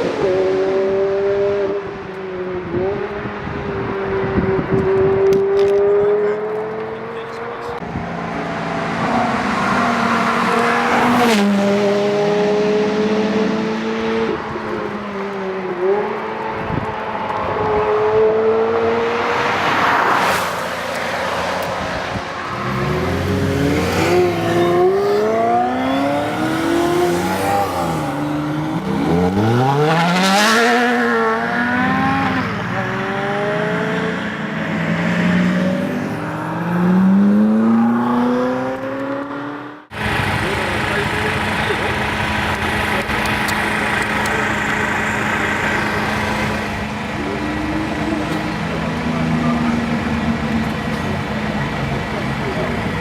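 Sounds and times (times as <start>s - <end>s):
sports car engine revving: 0.0s - 53.0s.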